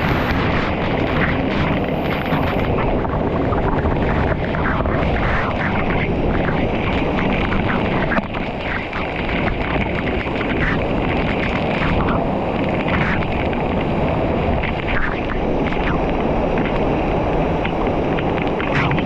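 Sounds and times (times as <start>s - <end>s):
rushing water roar: 0.0s - 19.0s
wind buffeting microphone: 0.0s - 19.0s.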